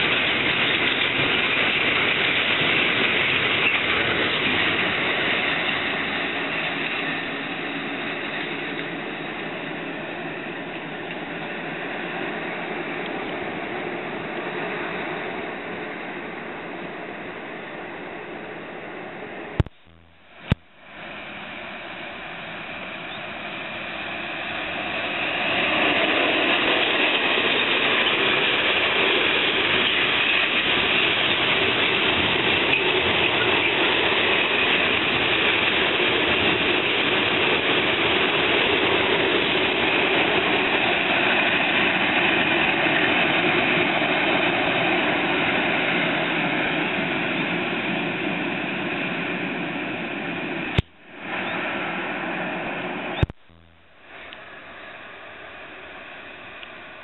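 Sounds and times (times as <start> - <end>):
freight train rolling on rails: 0.0 - 19.6, 20.8 - 53.3.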